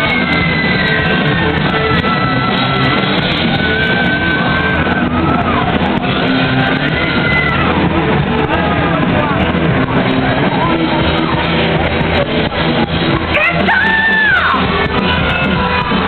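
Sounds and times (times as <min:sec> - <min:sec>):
live heavy metal band: 0:00.0 - 0:16.0.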